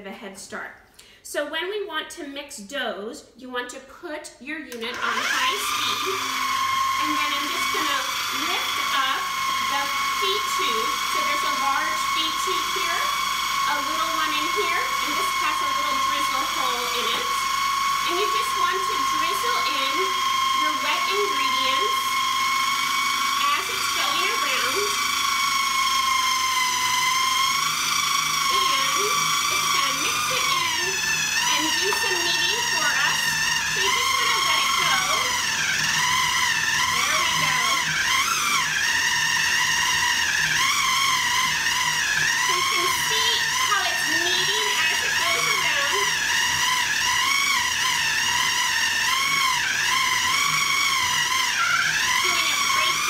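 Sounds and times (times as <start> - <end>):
food processor motor whining: 4.6 - 53.0.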